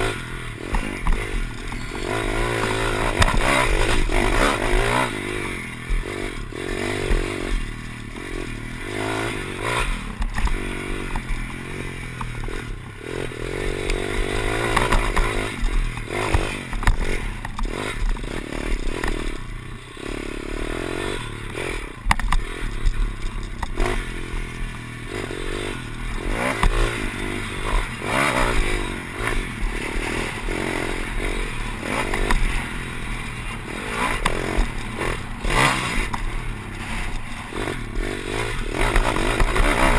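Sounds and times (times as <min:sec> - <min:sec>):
bike rattling and scraping: 0:00.0 - 0:39.9
motorbike engine revving: 0:00.0 - 0:39.9.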